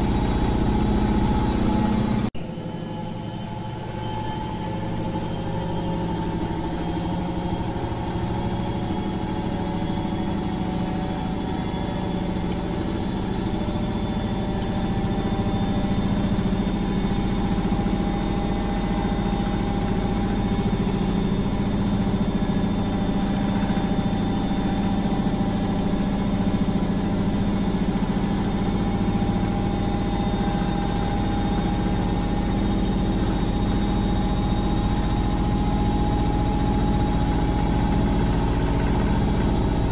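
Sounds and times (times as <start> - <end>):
thin motor whines rising: 0.0 - 39.9
washing machine running: 0.0 - 39.9.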